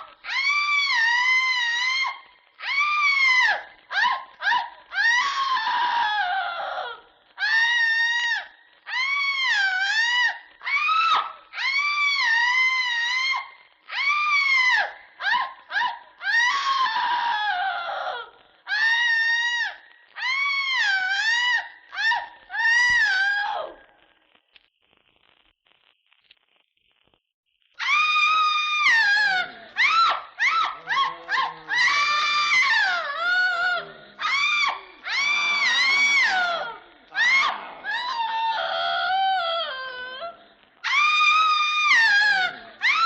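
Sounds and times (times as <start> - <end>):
shrill wailing cries: 0.0 - 23.7, 27.8 - 43.0.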